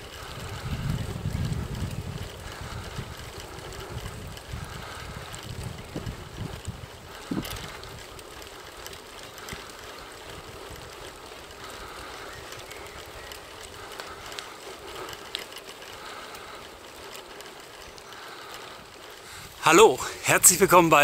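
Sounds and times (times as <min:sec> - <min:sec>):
bicycle tyres rolling on asphalt: 0:00.0 - 0:21.0
bike clicks and rattles: 0:00.0 - 0:21.0.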